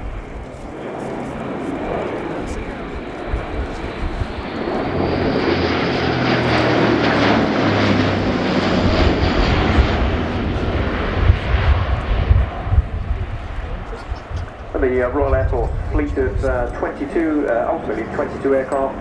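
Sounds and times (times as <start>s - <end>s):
turboprop engines and propellers: 0.0s - 19.0s.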